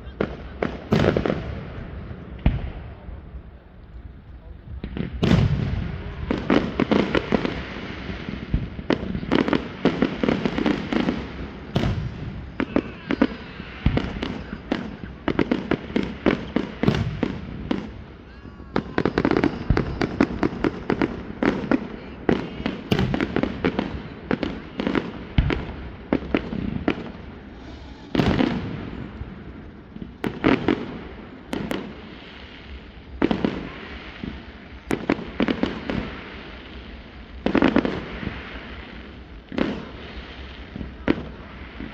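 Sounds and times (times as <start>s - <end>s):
fireworks exploding: 0.0s - 41.9s.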